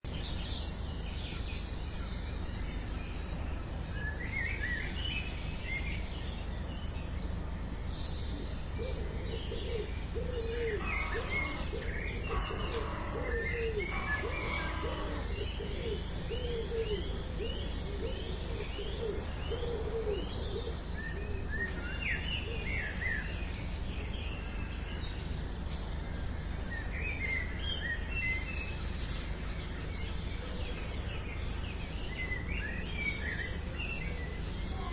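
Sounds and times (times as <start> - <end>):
birds chirping and calling: 0.1 - 34.9
steady low rumble: 0.1 - 34.9.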